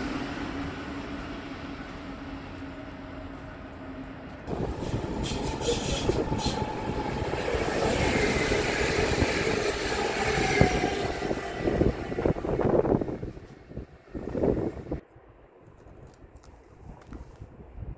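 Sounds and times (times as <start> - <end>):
wheel on rail rumble: 0.6 - 15.0.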